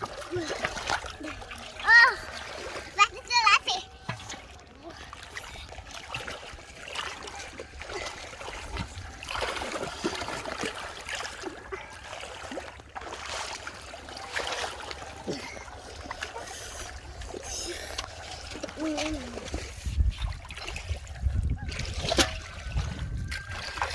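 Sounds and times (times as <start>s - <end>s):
muddy water sloshing and splashing: 0.0s - 23.9s.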